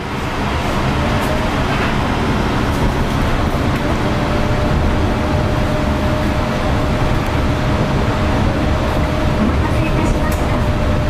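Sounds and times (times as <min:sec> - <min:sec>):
train rumbling and rolling: 0:00.0 - 0:11.0.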